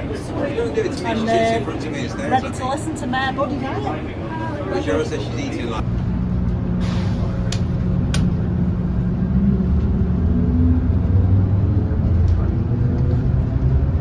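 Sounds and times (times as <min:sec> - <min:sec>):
monorail rumble and hum: 0:00.0 - 0:14.0.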